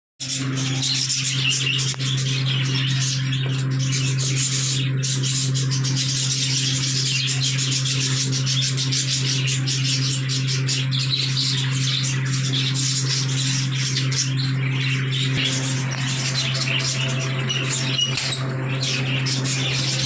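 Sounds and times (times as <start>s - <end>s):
budgerigars chattering and chirping: 0.2s - 20.0s
steady low hum: 0.2s - 20.0s.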